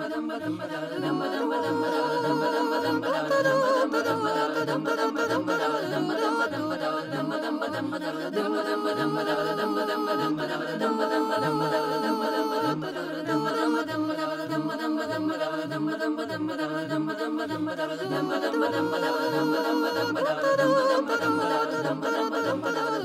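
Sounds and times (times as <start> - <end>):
voices singing long notes: 0.0 - 23.0.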